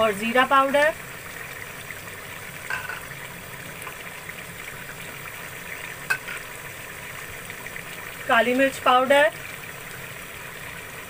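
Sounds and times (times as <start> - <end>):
chicken simmering in oil: 0.0 - 11.0.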